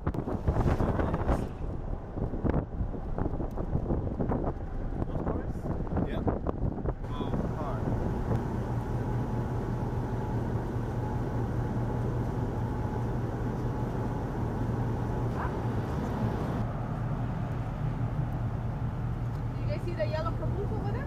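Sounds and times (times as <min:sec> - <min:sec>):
road noise: 0:00.0 - 0:21.0
vehicle engine humming: 0:00.0 - 0:21.0.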